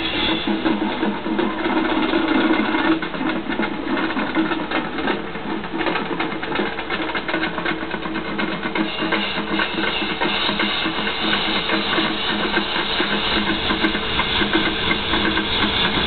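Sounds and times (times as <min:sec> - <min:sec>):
marching band playing: 0:00.0 - 0:16.0
quick drum strokes: 0:00.0 - 0:16.0.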